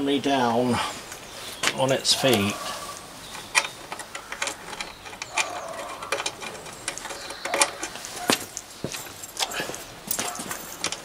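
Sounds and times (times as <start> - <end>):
hand tool tightening nuts: 1.1 - 11.0.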